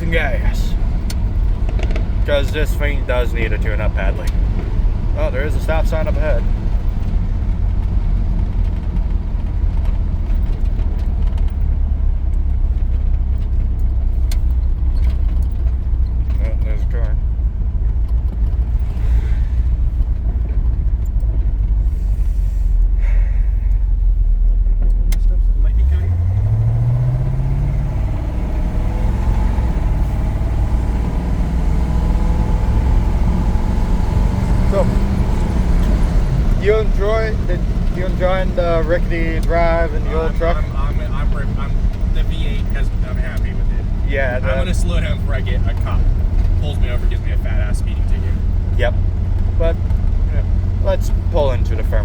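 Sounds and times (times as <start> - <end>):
engine and road rumble: 0.0 - 52.0.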